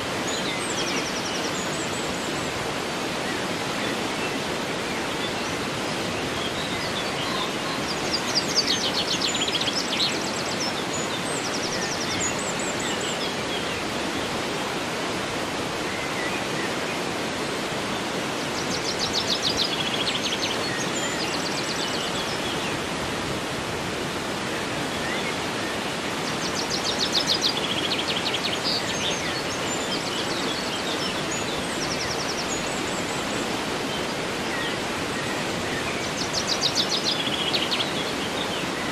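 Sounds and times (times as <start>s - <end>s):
distant waterfall: 0.0s - 38.9s
river water rushing: 0.0s - 38.9s.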